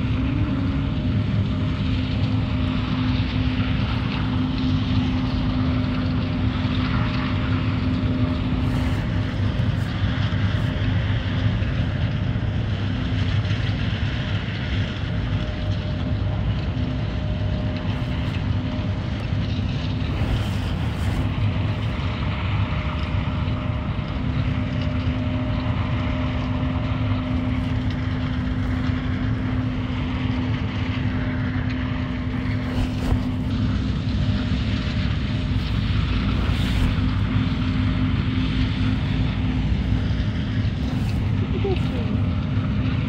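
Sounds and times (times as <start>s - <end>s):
combine engine running: 0.0s - 43.0s.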